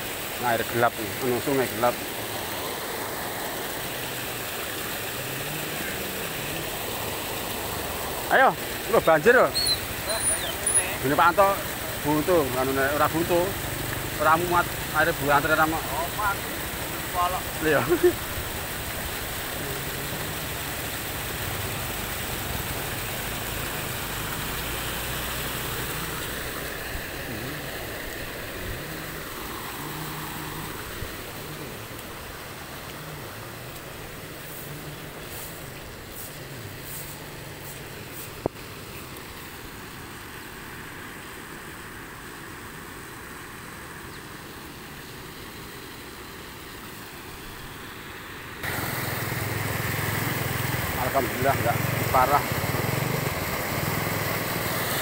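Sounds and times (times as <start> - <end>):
floodwater rushing down stream: 0.0 - 55.0.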